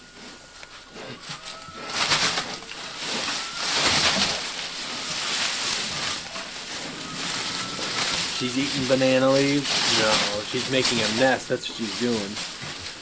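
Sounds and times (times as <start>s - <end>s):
pig rustling leaves and litter: 0.0s - 13.0s.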